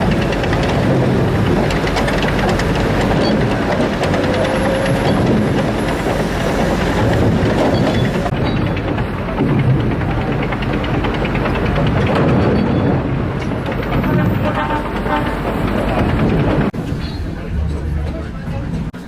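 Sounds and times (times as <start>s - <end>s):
sawmill machinery running: 0.0s - 17.0s
rapid clattering and knocking: 0.0s - 19.0s.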